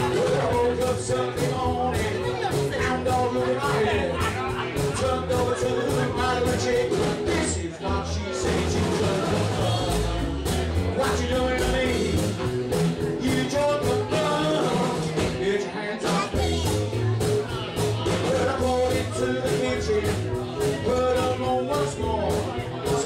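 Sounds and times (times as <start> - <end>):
man singing into microphone: 0.0 - 16.6, 17.8 - 23.0
drum beat: 0.0 - 23.0
upright double bass: 0.0 - 23.0.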